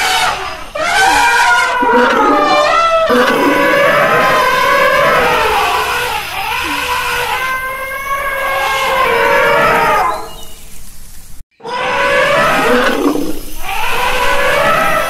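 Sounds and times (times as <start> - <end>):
elephant trumpeting: 0.0 - 10.5, 11.6 - 15.0.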